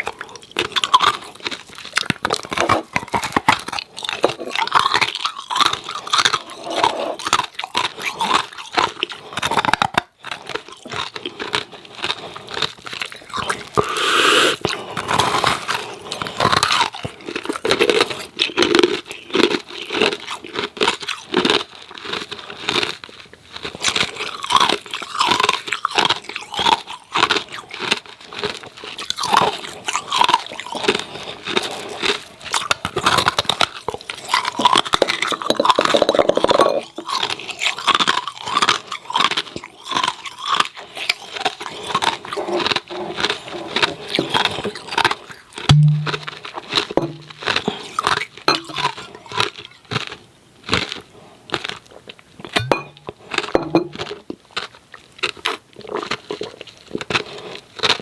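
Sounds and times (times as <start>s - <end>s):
ice cubes crunching in mouth: 0.0s - 58.0s.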